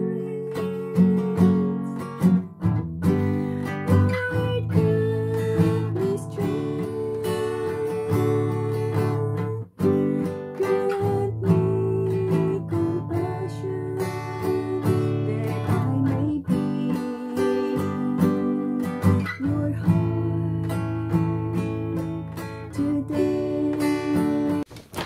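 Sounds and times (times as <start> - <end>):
woman singing: 0.0 - 2.4, 3.0 - 24.7
strummed acoustic guitar: 0.0 - 24.7.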